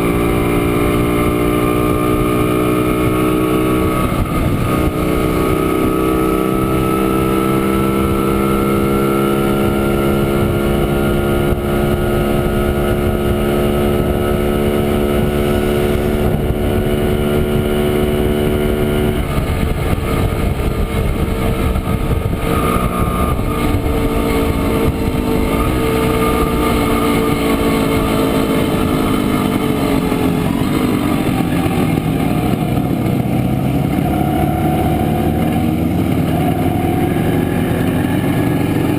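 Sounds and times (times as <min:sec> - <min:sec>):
two-stroke motorcycle engine: 0:00.0 - 0:38.9.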